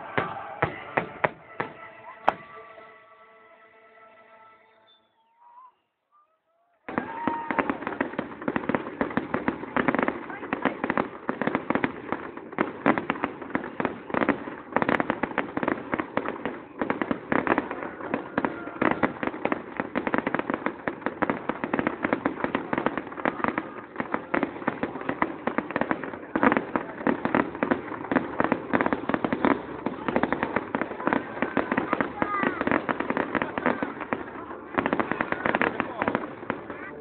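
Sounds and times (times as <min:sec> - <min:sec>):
fireworks bursting and crackling: 0:00.0 - 0:02.8, 0:06.9 - 0:37.0.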